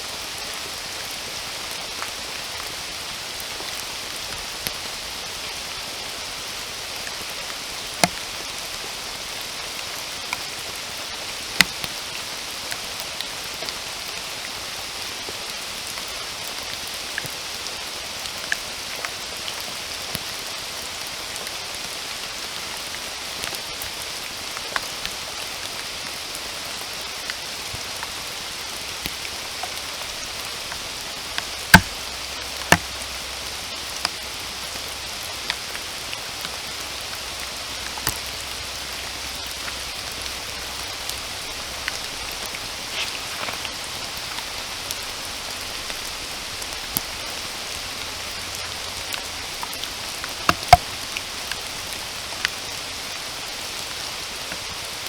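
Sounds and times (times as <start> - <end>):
steady rain falling: 0.0 - 55.0
louder raindrops striking nearby: 0.3 - 55.0.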